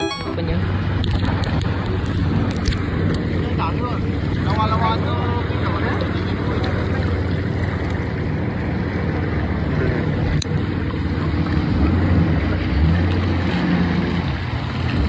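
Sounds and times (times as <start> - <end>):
jet ski engine idling: 0.4 - 15.0.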